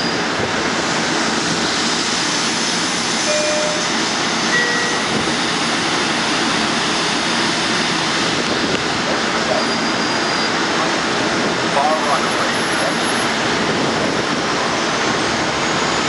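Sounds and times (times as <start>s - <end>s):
idling train whooshing roar: 0.0s - 16.0s.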